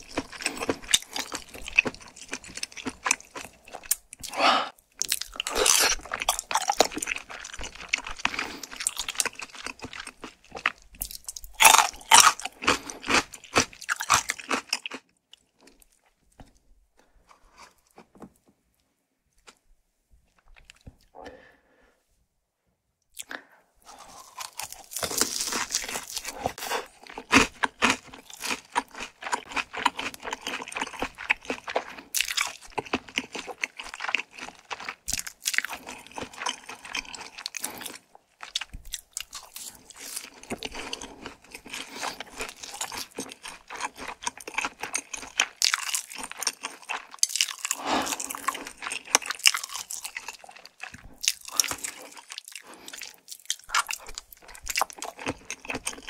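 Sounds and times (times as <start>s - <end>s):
crisp crunching of fried food: 0.0s - 4.4s, 5.0s - 16.6s, 23.2s - 56.0s.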